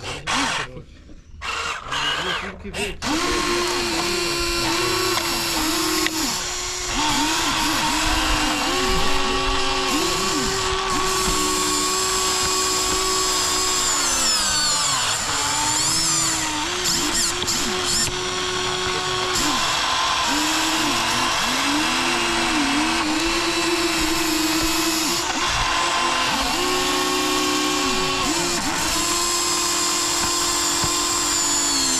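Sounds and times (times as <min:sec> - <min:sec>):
electric gear motors whining: 0:00.0 - 0:31.9.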